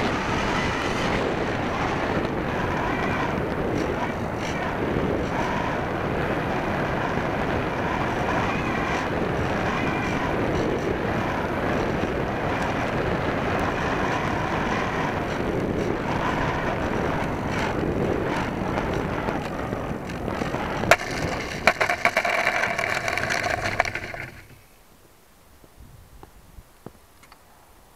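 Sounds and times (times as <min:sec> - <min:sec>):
model plane scraping on asphalt: 0:00.0 - 0:24.6
rush of air: 0:00.0 - 0:24.6.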